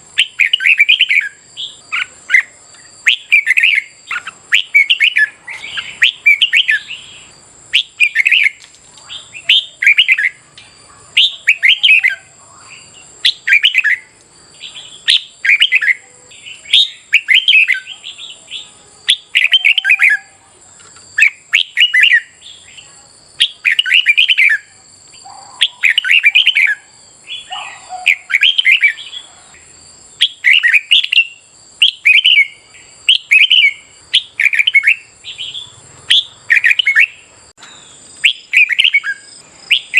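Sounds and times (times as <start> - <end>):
bulbuls chirping song: 0.0 - 39.9.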